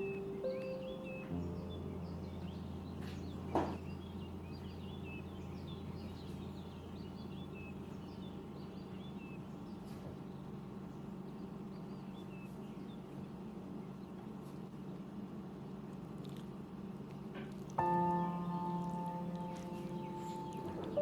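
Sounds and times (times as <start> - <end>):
steady low hum: 0.0 - 13.9, 17.8 - 21.0
small birds chirping: 0.0 - 14.2, 17.8 - 21.0.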